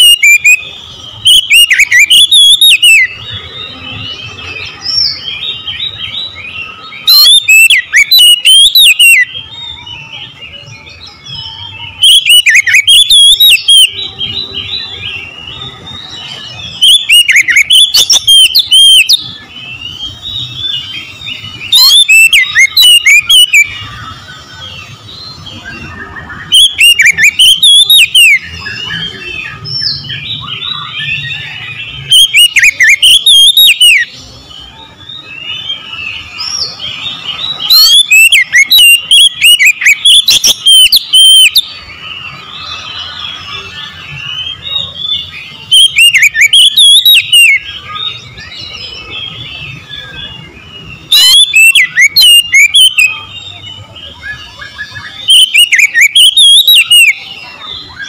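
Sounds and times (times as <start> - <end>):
bird whistled warbling and trills: 0.0 - 58.0
soft bird chirping: 0.0 - 58.0.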